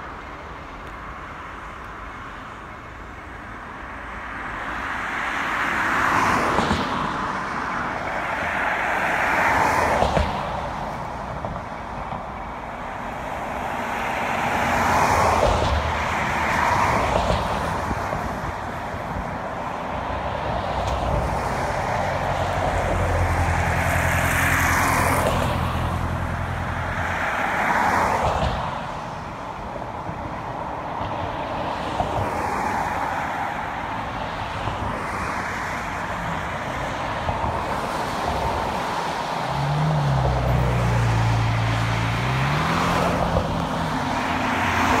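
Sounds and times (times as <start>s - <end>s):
cars passing: 0.0s - 45.0s.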